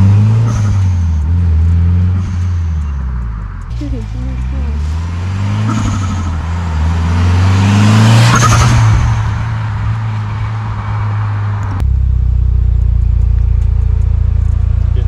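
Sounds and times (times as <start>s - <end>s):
low engine drone: 0.0s - 15.0s
turbocharged car engine revving: 0.0s - 15.0s.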